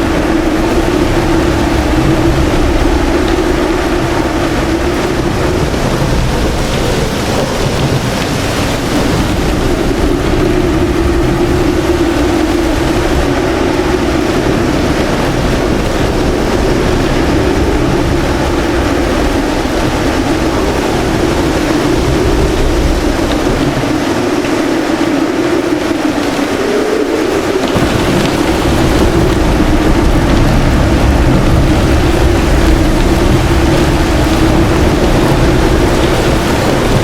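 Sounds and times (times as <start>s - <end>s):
heavy rain and wind: 0.0s - 37.0s
low thunder rumble: 0.0s - 37.0s.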